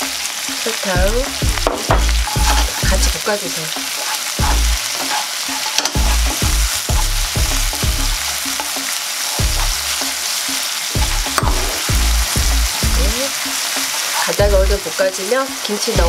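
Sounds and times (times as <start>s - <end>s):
food sizzling in oil: 0.0s - 16.0s
spatula scraping and knocking pan: 1.2s - 14.6s.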